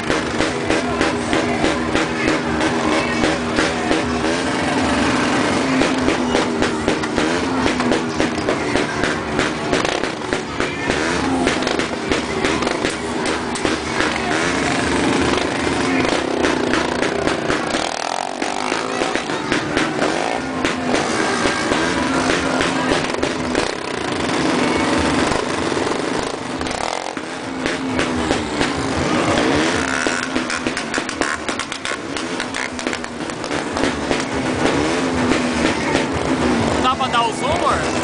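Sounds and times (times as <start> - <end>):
motorcycle engines running: 0.0 - 38.0
people's voices: 0.0 - 38.0.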